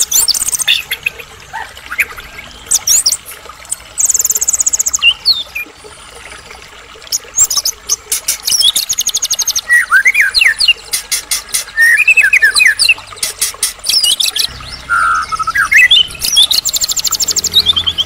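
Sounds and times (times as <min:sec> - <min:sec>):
songbird singing trills and whistles: 0:00.0 - 0:03.2, 0:04.0 - 0:05.7, 0:07.3 - 0:18.0.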